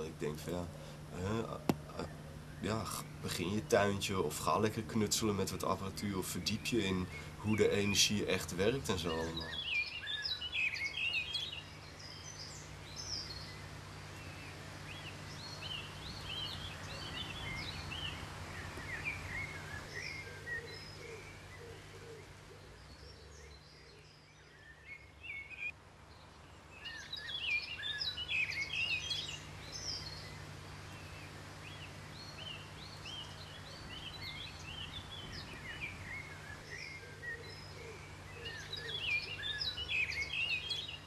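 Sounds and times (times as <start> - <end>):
birds singing and chirping: 0.0 - 41.0
steady low hum: 0.0 - 41.0.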